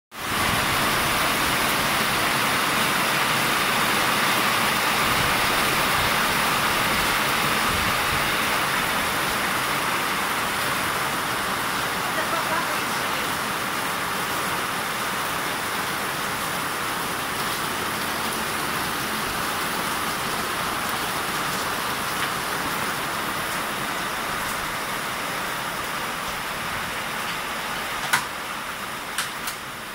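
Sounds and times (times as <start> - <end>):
pouring rain hiss: 0.2 - 29.9.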